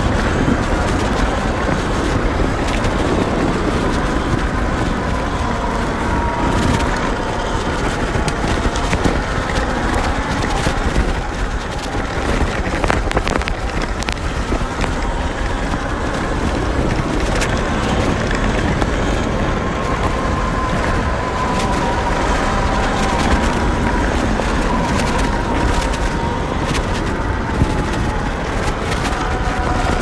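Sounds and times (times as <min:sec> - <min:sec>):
wind and tyre noise: 0:00.0 - 0:30.0.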